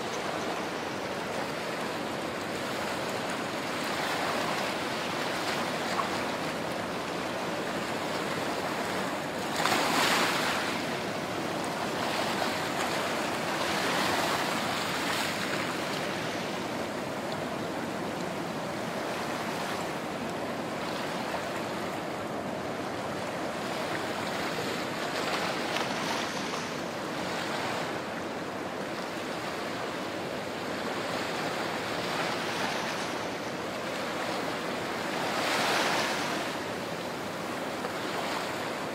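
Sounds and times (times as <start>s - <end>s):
small waves washing ashore: 0.0s - 38.9s.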